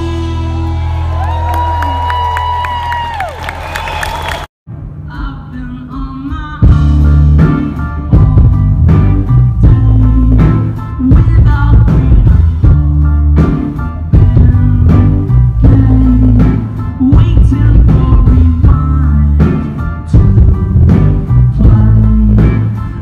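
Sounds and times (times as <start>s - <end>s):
heavy bass: 0.0s - 3.3s, 3.9s - 23.0s.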